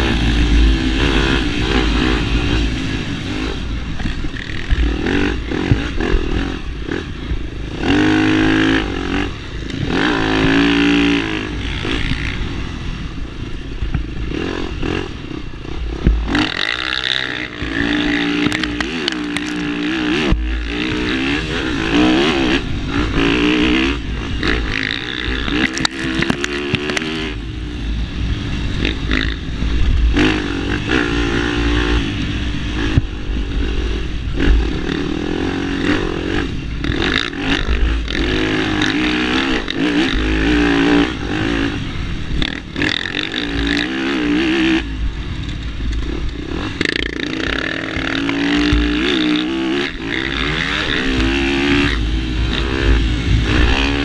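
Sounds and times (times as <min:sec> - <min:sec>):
dirt bike engine revving: 0:00.0 - 0:54.0
wind on microphone: 0:00.0 - 0:54.0.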